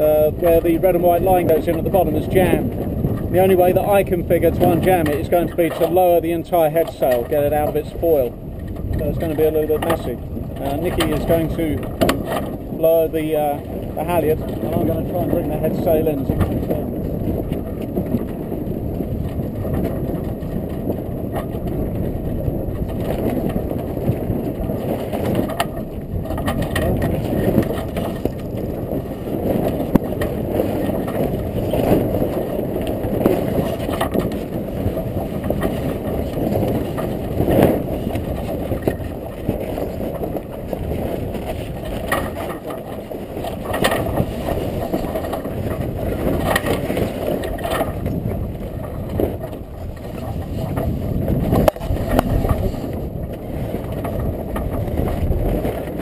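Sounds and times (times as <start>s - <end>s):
wind buffeting microphone: 0.0s - 56.0s
sail cloth flapping and snapping: 6.8s - 56.0s.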